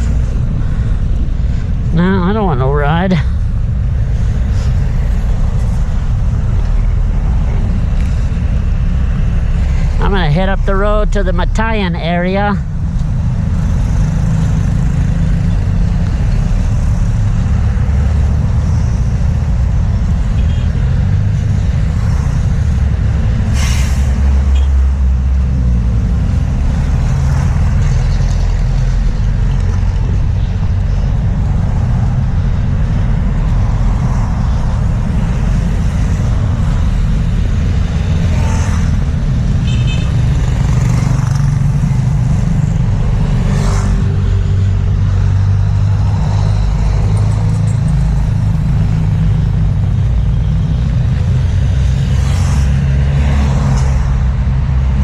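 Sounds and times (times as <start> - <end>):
vehicles passing with low rumble: 0.0 - 55.0.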